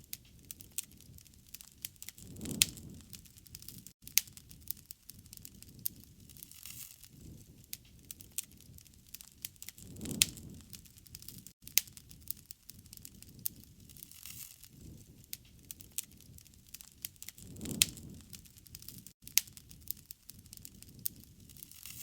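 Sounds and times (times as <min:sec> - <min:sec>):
loud snaps of fire: 0:00.0 - 0:22.0
wood fire crackling: 0:00.0 - 0:22.0.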